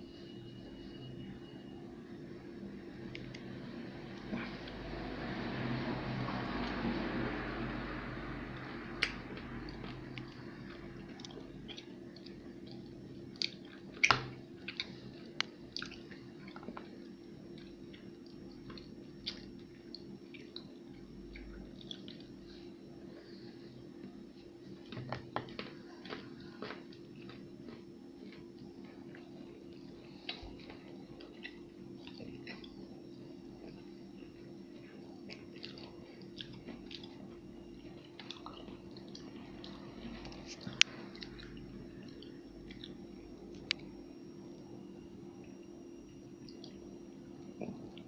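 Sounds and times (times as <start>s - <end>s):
low steady hum: 0.0s - 48.0s
chewing chocolate with nuts: 8.5s - 48.0s.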